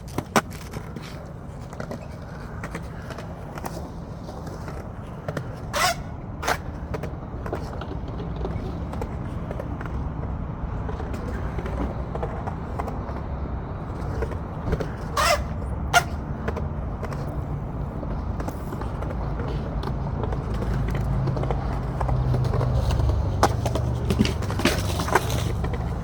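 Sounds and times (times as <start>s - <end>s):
skateboard rolling on concrete: 0.0s - 26.0s
skateboard scraping clacks: 0.0s - 26.0s.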